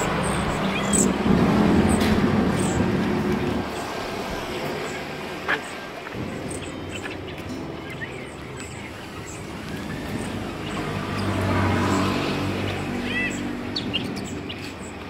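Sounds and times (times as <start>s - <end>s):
caged birds chirping: 0.0s - 15.0s
vehicle engine passing: 0.0s - 15.0s.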